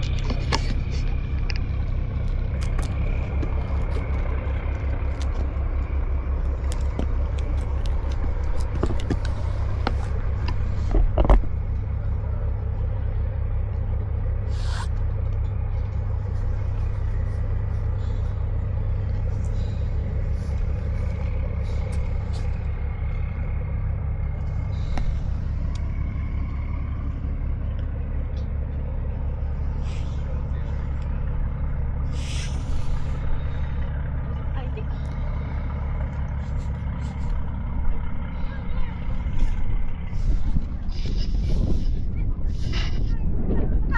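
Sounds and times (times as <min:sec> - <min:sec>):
engine running: 0:00.0 - 0:43.9.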